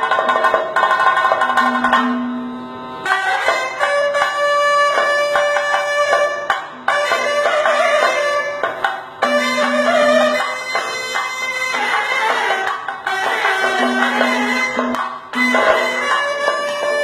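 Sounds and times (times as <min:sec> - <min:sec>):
chenda drum strokes: 0:00.0 - 0:17.0
held melodic notes: 0:01.4 - 0:17.0.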